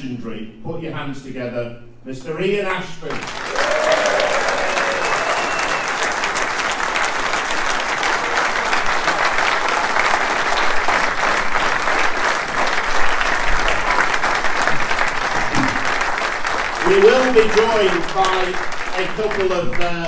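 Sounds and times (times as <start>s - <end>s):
large audience applauding: 3.1s - 20.0s.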